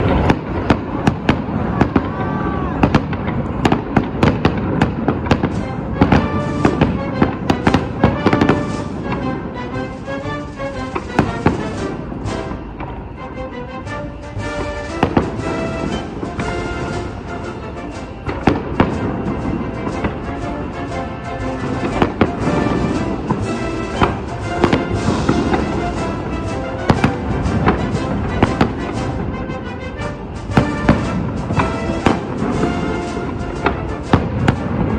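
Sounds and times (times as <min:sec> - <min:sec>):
fireworks bursting: 0:00.0 - 0:34.9
music playing: 0:00.0 - 0:34.9.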